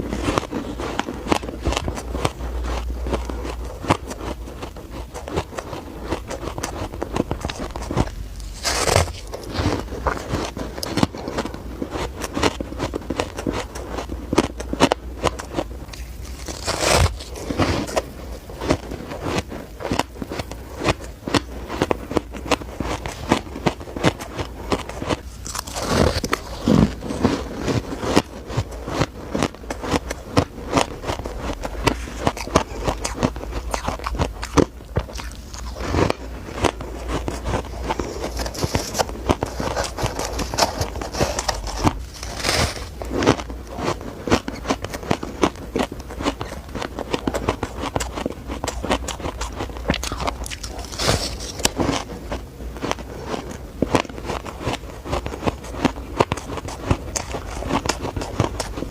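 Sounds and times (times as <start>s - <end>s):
chewing crunchy ice: 0.0s - 58.9s.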